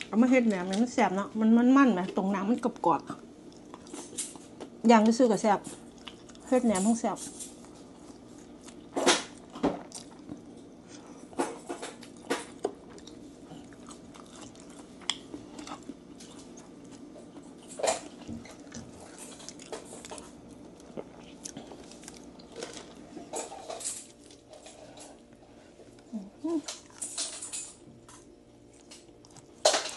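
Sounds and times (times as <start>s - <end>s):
crunchy chewing: 2.6s - 4.8s, 5.6s - 6.6s, 7.2s - 29.9s.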